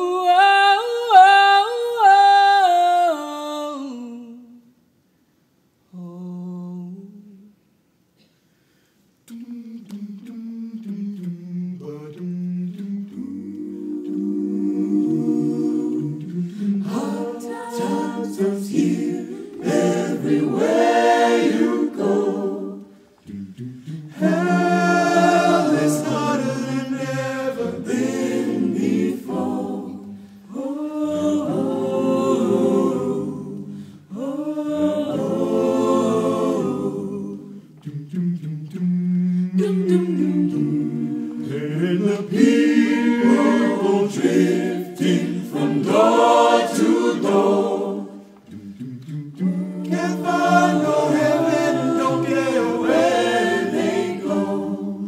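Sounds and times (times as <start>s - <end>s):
a cappella choir singing blues: 0.0s - 4.8s, 5.9s - 55.0s.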